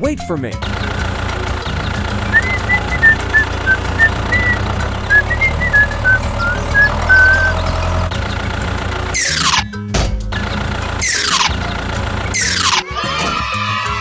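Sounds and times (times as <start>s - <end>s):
small vehicle engine running: 0.6s - 9.6s, 10.4s - 13.0s.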